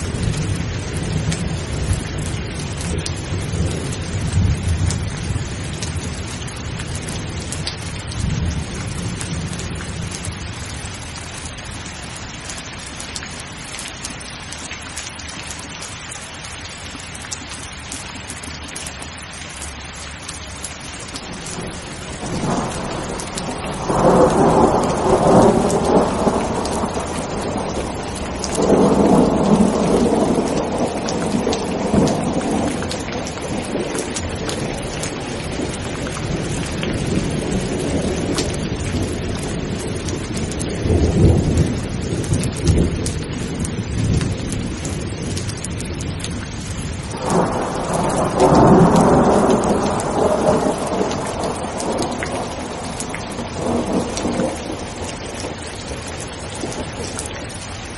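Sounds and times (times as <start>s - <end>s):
thunder rumbling: 0.0s - 11.0s, 21.2s - 57.9s
heavy rain: 0.0s - 57.9s.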